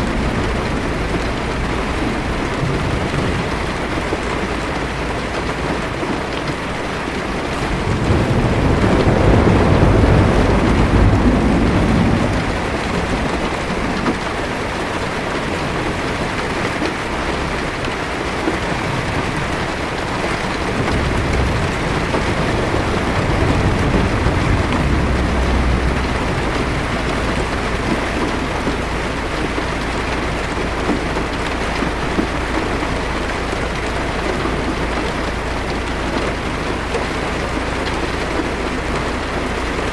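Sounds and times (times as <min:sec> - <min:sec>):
heavy rain on car roof: 0:00.0 - 0:39.9
thunder rolling: 0:00.0 - 0:39.9.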